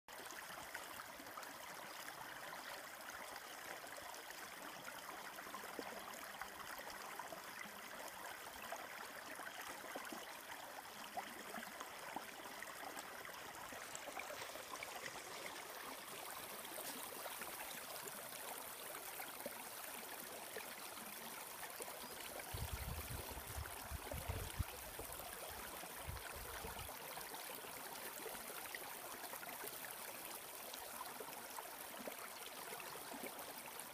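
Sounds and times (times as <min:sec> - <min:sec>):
creek trickling over rocks: 0:00.1 - 0:33.9.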